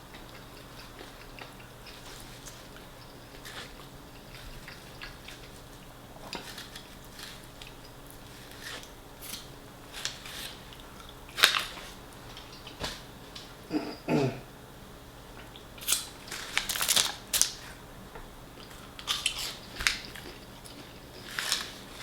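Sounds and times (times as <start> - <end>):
chewing and crunching food: 0.0 - 13.6, 15.2 - 22.0.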